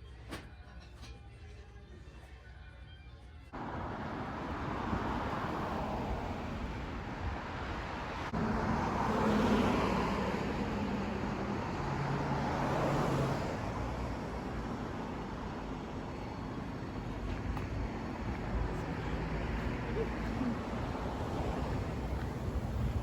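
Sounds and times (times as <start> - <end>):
steady traffic hum: 3.5 - 23.0.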